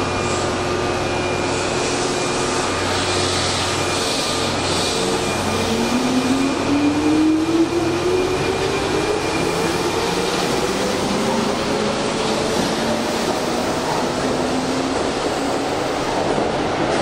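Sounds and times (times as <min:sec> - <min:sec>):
rumble of moving train cars: 0:00.0 - 0:17.0.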